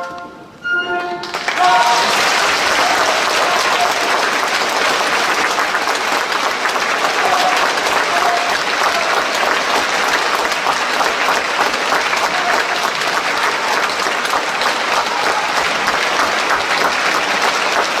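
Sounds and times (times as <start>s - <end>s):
audience applauding: 1.2s - 18.0s.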